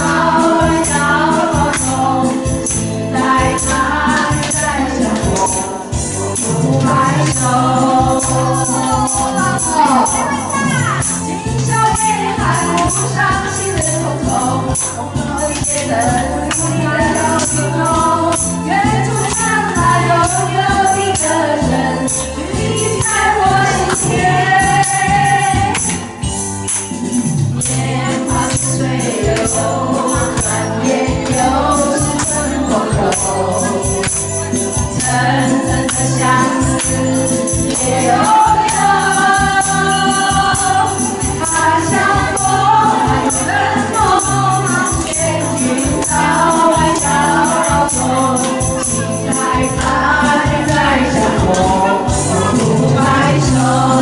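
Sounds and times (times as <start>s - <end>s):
women singing into microphones: 0.0s - 26.4s, 27.5s - 54.0s
backing track with steady beat: 0.0s - 54.0s.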